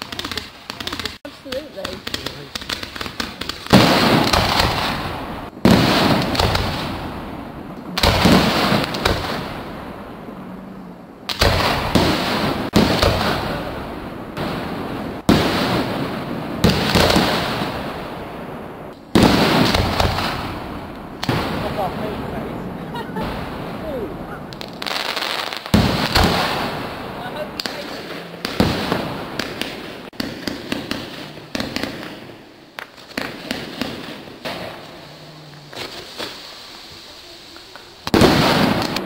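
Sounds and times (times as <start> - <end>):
fireworks bursting: 0.0 - 39.0.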